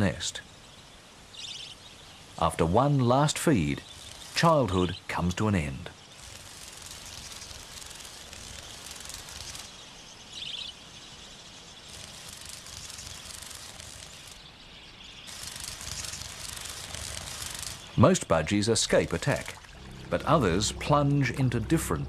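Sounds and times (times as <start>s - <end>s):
outdoor ambient hiss: 0.0s - 22.0s.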